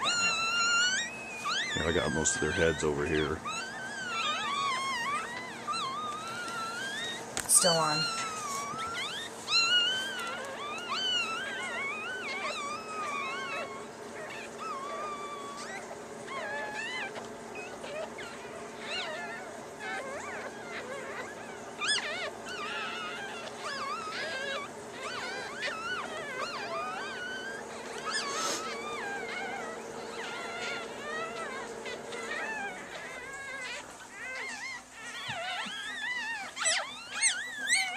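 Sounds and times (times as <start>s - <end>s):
faint steady hum: 0.0s - 37.9s
puppies squealing and crying: 0.0s - 37.9s.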